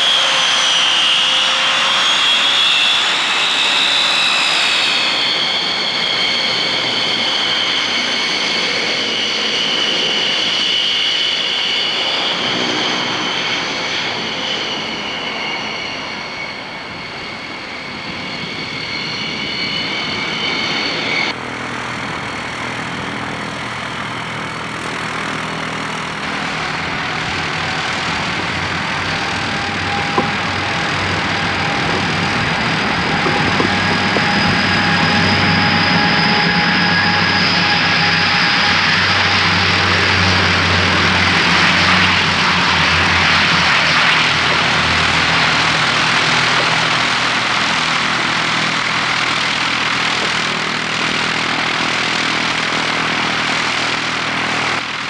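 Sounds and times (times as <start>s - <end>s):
turboprop engines whining: 0.0s - 55.0s.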